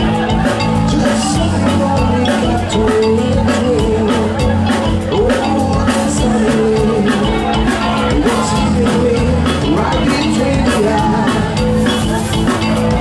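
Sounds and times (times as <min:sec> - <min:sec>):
bass guitar: 0:00.0 - 0:13.0
distorted electric guitars: 0:00.0 - 0:13.0
drum kit beat: 0:00.0 - 0:13.0
person singing: 0:00.0 - 0:13.0.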